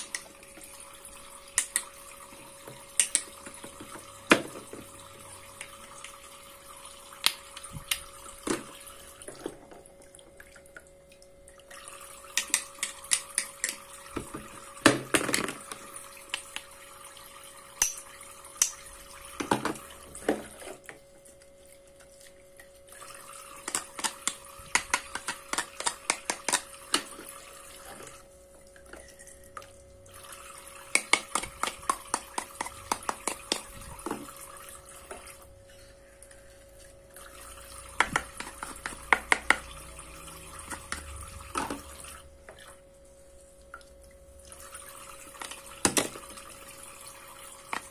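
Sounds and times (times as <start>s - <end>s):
toy faucet water stream: 0.0s - 35.6s, 36.3s - 42.8s, 43.6s - 47.9s
faint steady hum: 0.0s - 47.9s.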